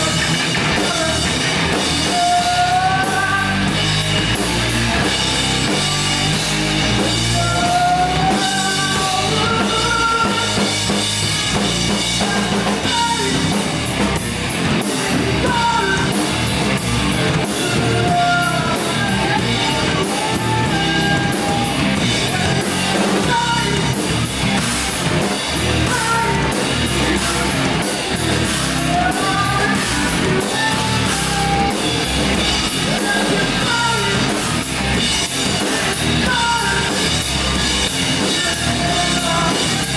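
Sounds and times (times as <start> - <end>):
person singing: 0.0 - 4.0, 7.0 - 10.9, 12.0 - 13.6, 14.8 - 16.6, 17.3 - 24.2, 25.2 - 34.7, 35.5 - 39.9
amplified electric guitars: 0.0 - 39.9
bass guitar: 0.0 - 39.9
drum kit: 0.0 - 39.9.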